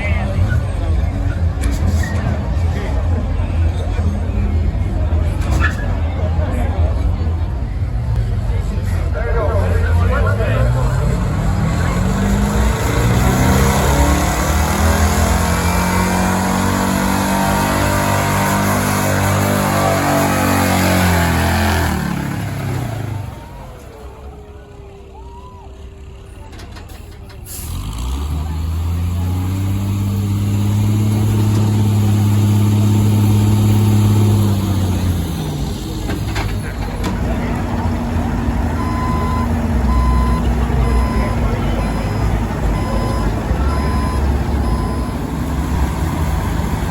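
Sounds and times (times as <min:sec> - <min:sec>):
truck engine at high revs: 0:00.0 - 0:46.9.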